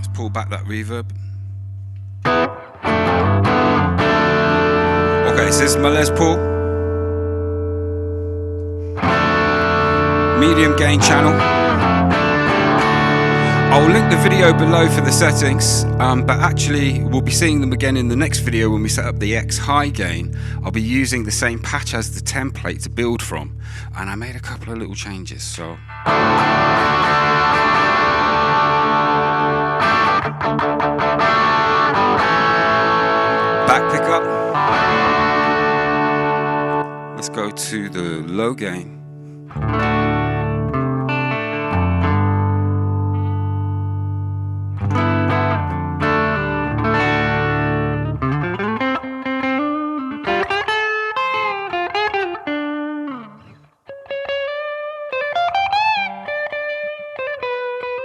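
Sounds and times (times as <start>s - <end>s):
distorted electric guitar chords: 0.0s - 58.0s.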